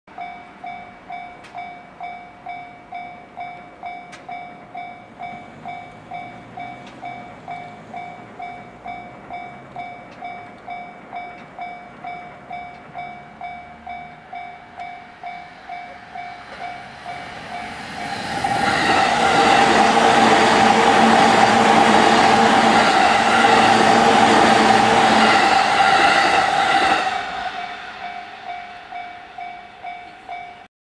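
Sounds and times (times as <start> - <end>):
level crossing warning bell ringing: 0.1 - 30.7
electric train passing: 0.2 - 30.7.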